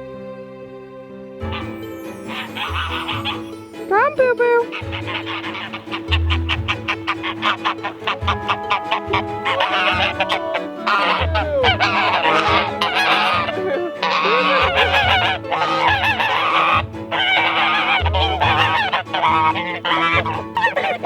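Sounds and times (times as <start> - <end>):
background music: 0.0 - 21.0
geese honking: 1.5 - 3.6, 4.4 - 21.0.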